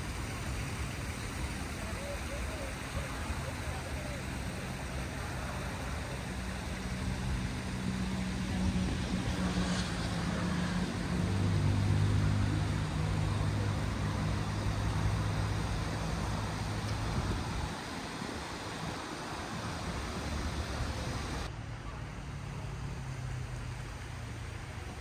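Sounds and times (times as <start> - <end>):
outdoor background noise: 0.0 - 25.0
vehicle engine droning: 3.5 - 25.0.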